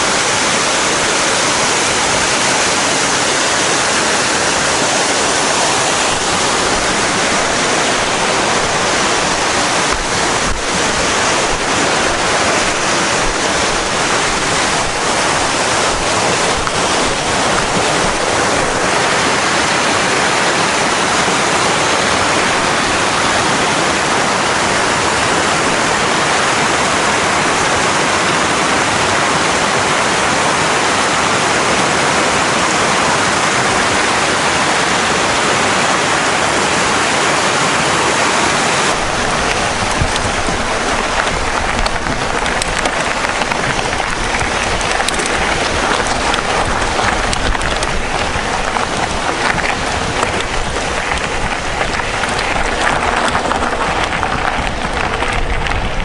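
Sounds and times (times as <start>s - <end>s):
bike tyre noise: 0.0s - 56.0s
wind on microphone: 0.0s - 56.0s.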